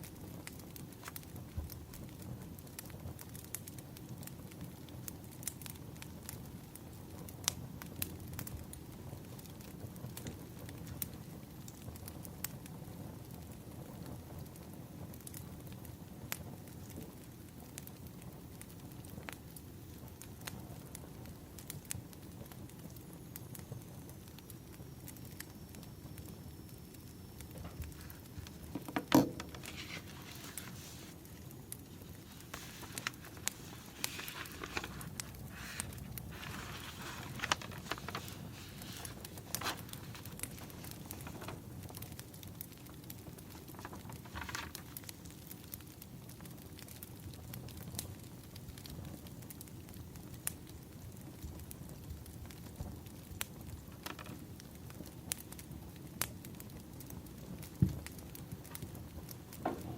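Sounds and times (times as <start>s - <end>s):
burning logs rumbling: 0.0s - 59.9s
fire snaps and pops: 0.0s - 59.9s
wood fire crackling: 0.0s - 59.9s.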